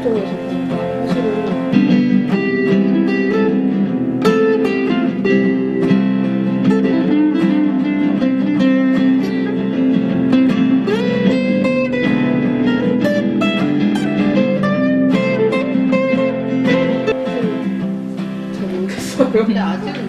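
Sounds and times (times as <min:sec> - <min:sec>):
guitar music: 0:00.0 - 0:20.0.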